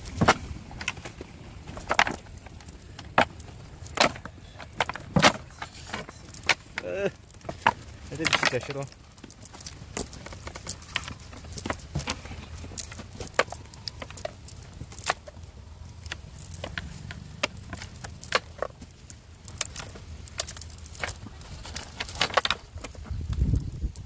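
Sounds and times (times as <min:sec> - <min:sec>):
net sinkers clinking on bamboo: 0:00.0 - 0:24.0.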